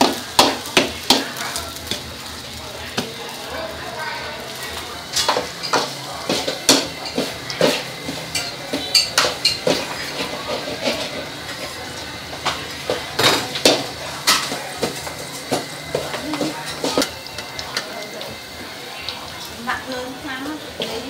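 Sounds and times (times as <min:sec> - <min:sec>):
egg sizzling in oil: 0:00.0 - 0:21.0.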